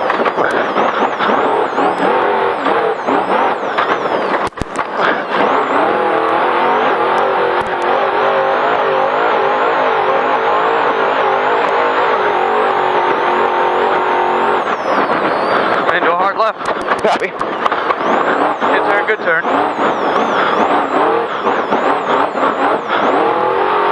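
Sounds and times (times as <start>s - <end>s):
race engine at high revs: 0.0s - 23.9s.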